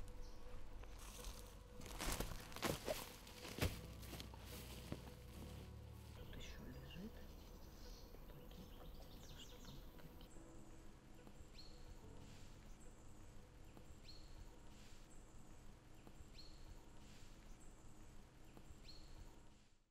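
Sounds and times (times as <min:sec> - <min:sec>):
bird chirping: 0:00.0 - 0:19.4.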